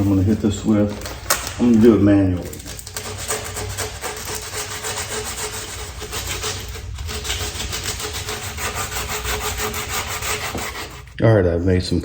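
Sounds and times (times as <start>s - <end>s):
sandpaper rubbing on a log: 0.0s - 11.2s.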